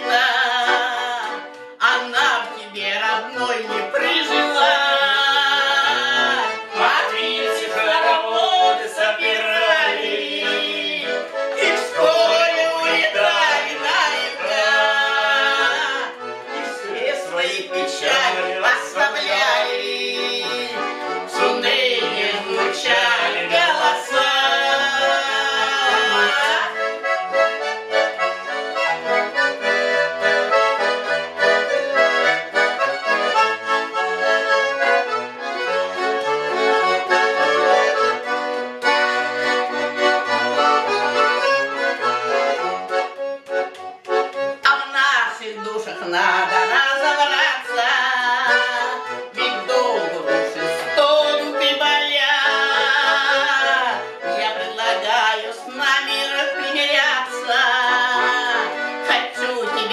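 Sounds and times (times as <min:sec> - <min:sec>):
button accordion playing folk melody: 0:00.0 - 0:59.9.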